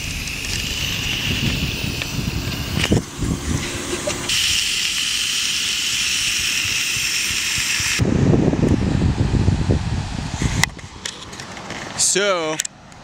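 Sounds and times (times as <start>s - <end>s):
wind buffeting microphone: 0.0s - 4.8s, 6.0s - 13.0s.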